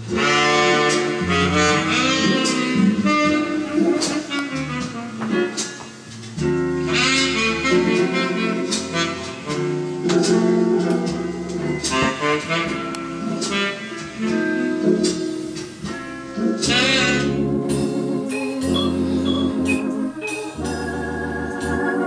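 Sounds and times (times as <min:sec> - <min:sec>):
jazzy instrumental music from vinyl: 0:00.0 - 0:22.0.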